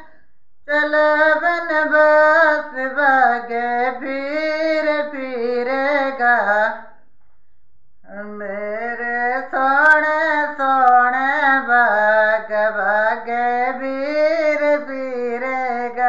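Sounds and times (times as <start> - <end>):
woman singing unaccompanied: 0.7 - 6.8, 8.1 - 16.0.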